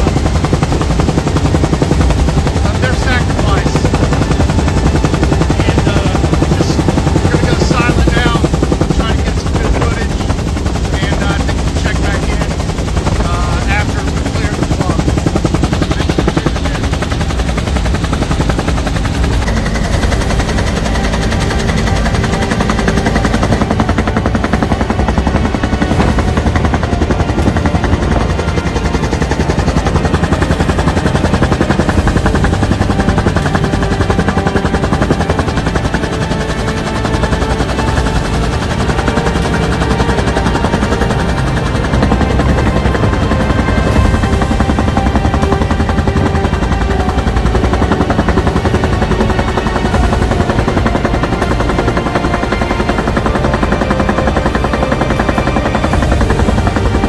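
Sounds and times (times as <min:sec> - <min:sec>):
helicopter rotor chopping: 0:00.0 - 0:57.0
turbine whine: 0:00.0 - 0:57.0.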